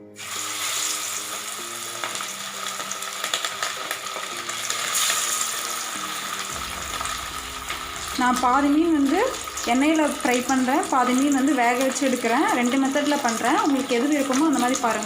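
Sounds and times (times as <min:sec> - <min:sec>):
soft background music: 0:00.0 - 0:15.0
fish sizzling in hot oil: 0:00.1 - 0:15.0.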